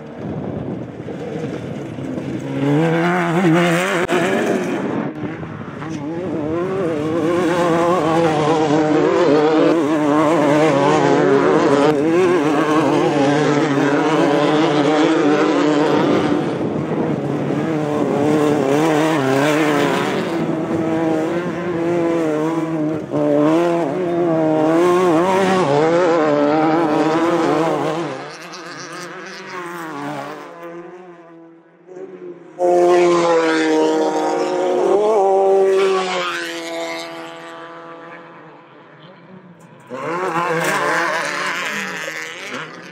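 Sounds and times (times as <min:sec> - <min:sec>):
race vehicle engines revving: 0:00.0 - 0:42.9.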